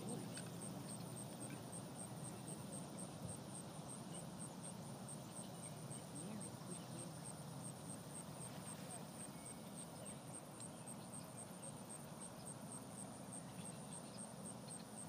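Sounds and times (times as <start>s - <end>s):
high insect chirping: 0.0s - 15.0s
low background hiss: 0.0s - 15.0s.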